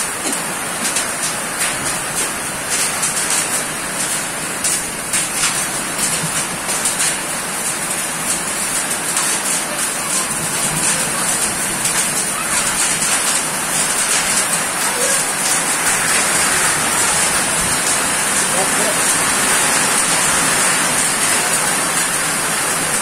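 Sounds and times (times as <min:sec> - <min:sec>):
heavy rain on puddles: 0:00.0 - 0:23.0.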